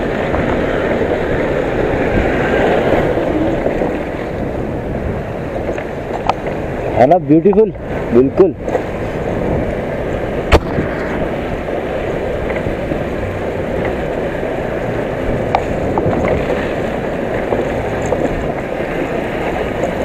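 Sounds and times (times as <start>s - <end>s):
scooter engine and road noise: 0.0s - 20.0s
wind rush on microphone: 0.0s - 20.0s.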